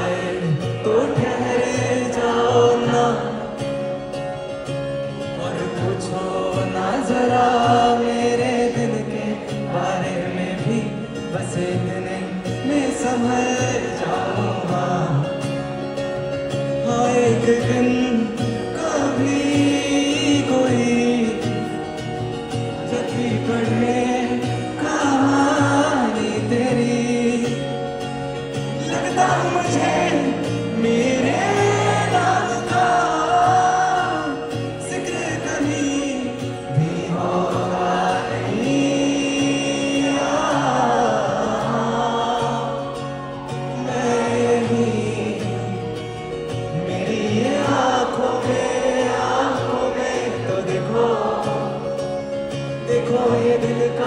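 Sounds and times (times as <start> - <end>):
acoustic guitar: 0.0 - 54.0
crowd singing along: 0.0 - 54.0
man singing: 0.0 - 54.0.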